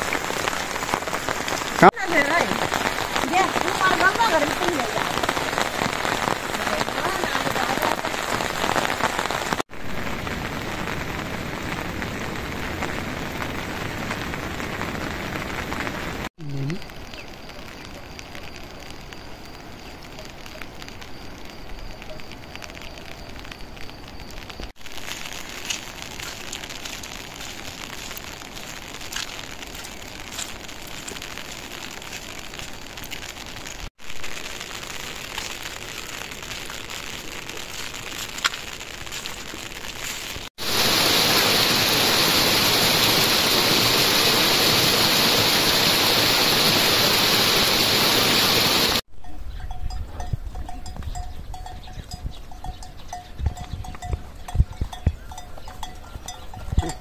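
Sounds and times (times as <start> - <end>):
raindrops ticking on surfaces: 0.0 - 49.0
rain falling: 0.0 - 49.1.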